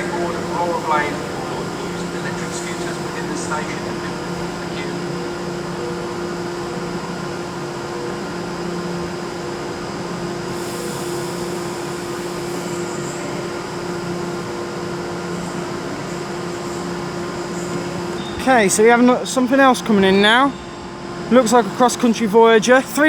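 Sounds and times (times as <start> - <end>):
standing trains humming: 0.0 - 23.0.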